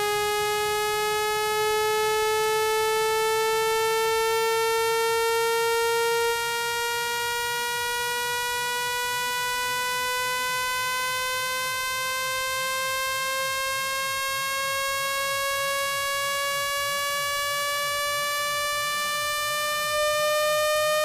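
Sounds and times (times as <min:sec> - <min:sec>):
buzzy synthetic tone rising in pitch: 0:00.0 - 0:21.0.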